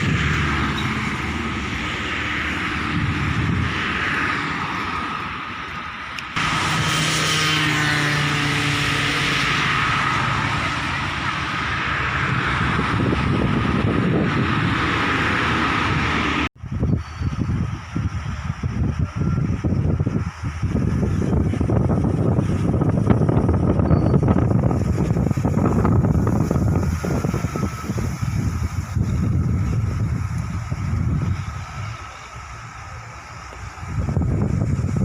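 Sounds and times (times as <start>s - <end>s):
vehicle running: 0.0s - 35.0s.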